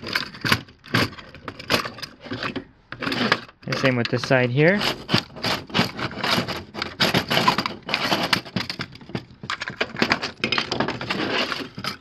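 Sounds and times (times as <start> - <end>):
plastic clicks knocks and scrapes: 0.0 - 12.0.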